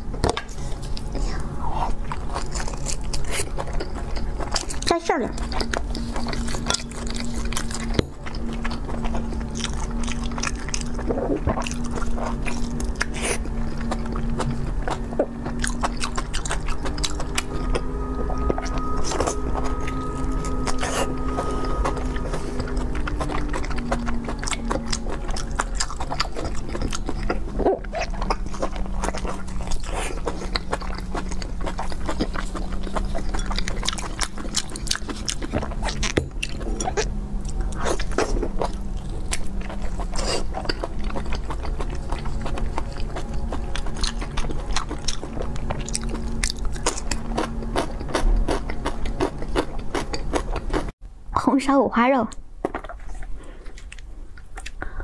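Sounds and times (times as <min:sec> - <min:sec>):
chewing and biting: 0:00.0 - 0:50.9, 0:52.6 - 0:55.0
steady low hum: 0:00.0 - 0:51.5.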